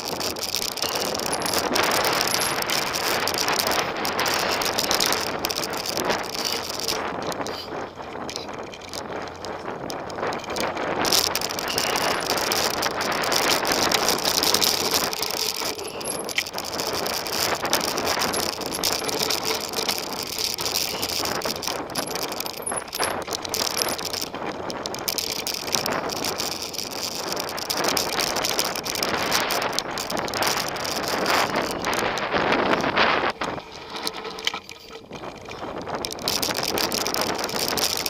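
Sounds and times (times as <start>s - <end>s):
mountain bike rattling: 0.0s - 38.0s
tyre noise on dirt: 0.0s - 38.0s.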